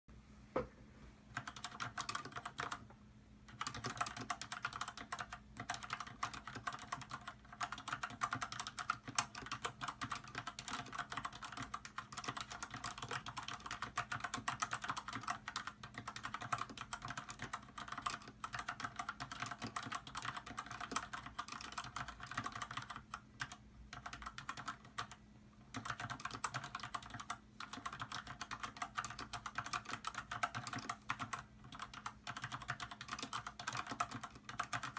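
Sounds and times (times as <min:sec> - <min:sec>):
fast typing on mechanical keyboard: 0:01.3 - 0:02.9, 0:03.5 - 0:34.9.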